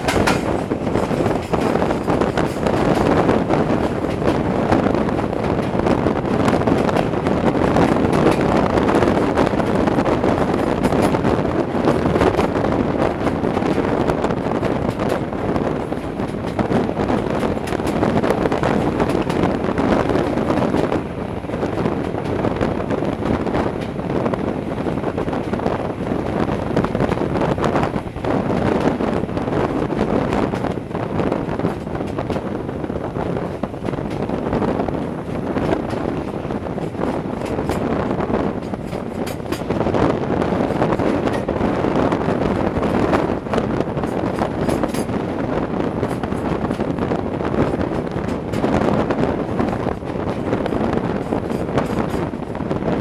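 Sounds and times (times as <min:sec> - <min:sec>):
train wheels on rails: 0:00.0 - 0:53.0
wind buffeting microphone: 0:00.0 - 0:53.0.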